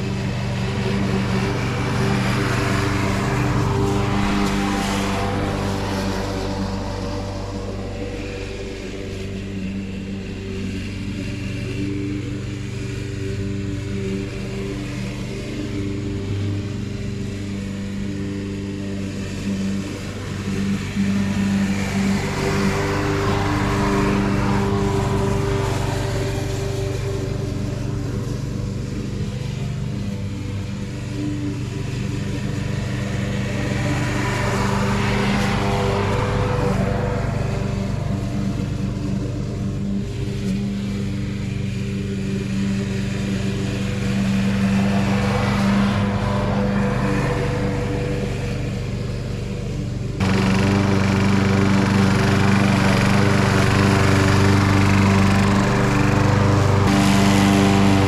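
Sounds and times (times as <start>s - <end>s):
lawn mower running: 0.0s - 58.0s.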